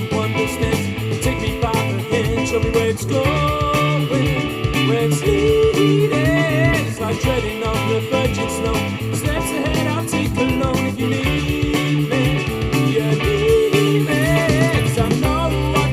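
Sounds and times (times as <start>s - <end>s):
rock song through loudspeakers: 0.0s - 15.9s.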